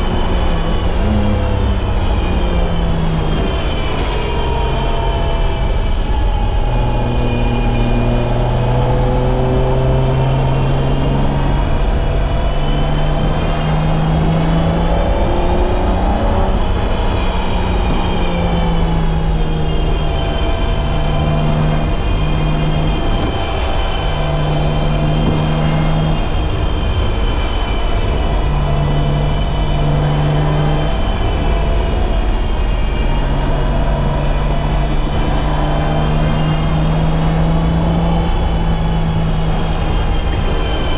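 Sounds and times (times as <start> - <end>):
car engine revving under load: 0.0 - 40.9.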